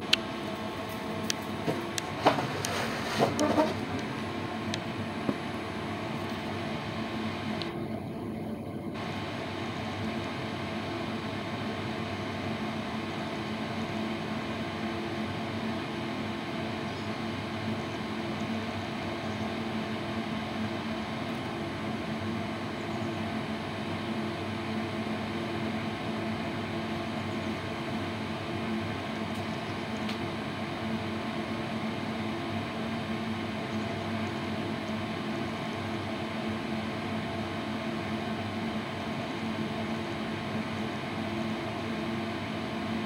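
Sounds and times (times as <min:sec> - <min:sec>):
tumble dryer humming: 0:00.0 - 0:43.0.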